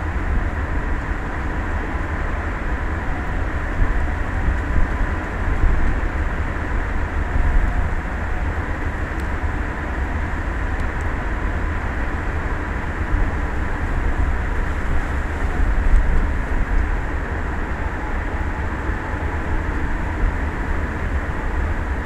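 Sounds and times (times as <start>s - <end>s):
faint steady hum: 0.0s - 22.0s
wind noise on microphone: 0.0s - 22.0s.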